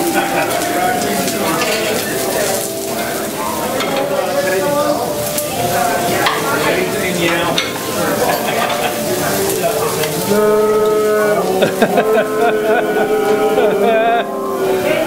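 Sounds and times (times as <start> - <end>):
vegetables sizzling on a griddle: 0.0 - 15.0.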